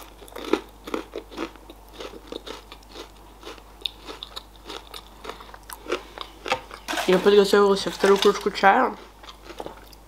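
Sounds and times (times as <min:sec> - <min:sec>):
chewing crunchy candy: 0:00.0 - 0:07.2, 0:08.0 - 0:10.0.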